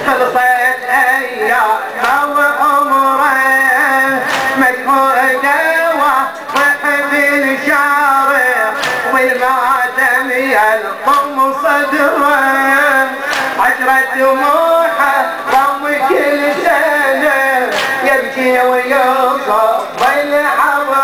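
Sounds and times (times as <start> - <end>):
man singing a lament: 0.0 - 21.0.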